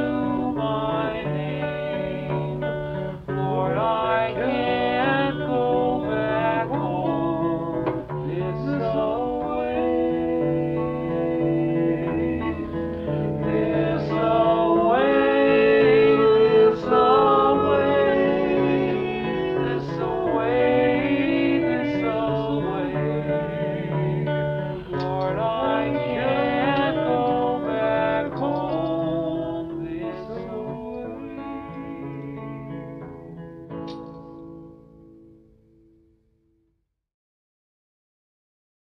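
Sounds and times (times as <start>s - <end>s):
plucked guitar: 0.0s - 36.1s.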